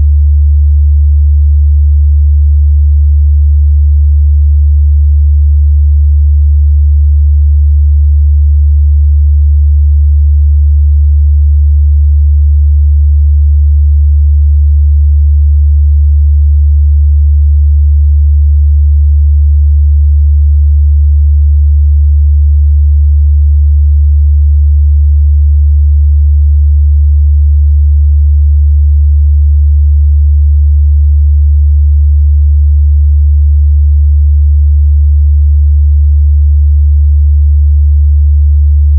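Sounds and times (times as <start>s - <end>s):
low sine-wave test tone: 0.0s - 38.9s.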